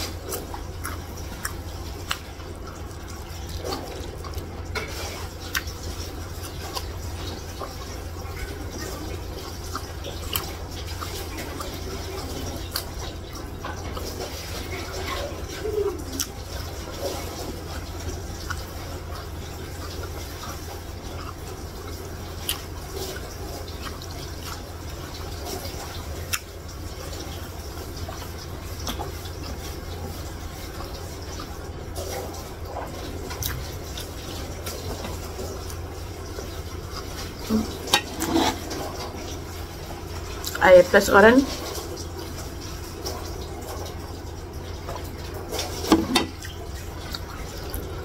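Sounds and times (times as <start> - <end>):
wet chewing and mouth sounds: 0.0 - 48.0.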